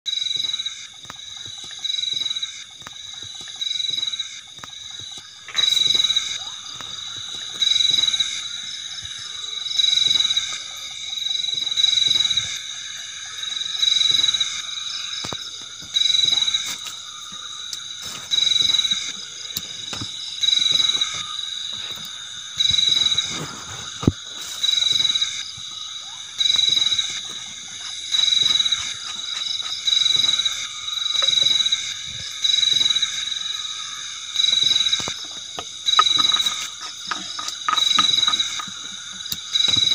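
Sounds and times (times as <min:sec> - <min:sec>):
chorus of crickets: 0:00.1 - 0:39.9
cricket pulsed trills: 0:00.1 - 0:39.9.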